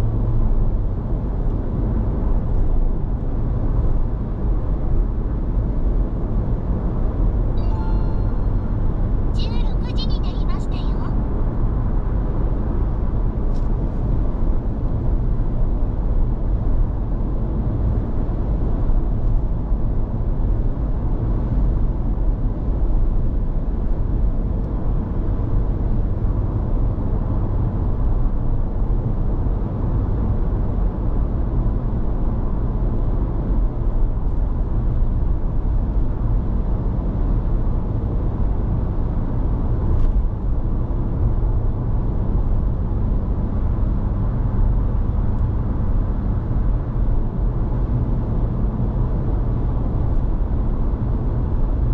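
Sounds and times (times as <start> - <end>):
car cabin road rumble: 8.4 - 51.9.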